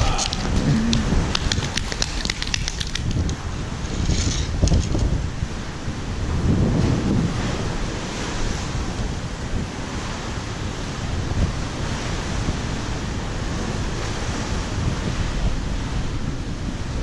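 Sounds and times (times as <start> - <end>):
moving water: 0.0 - 17.0
wind: 0.0 - 17.0.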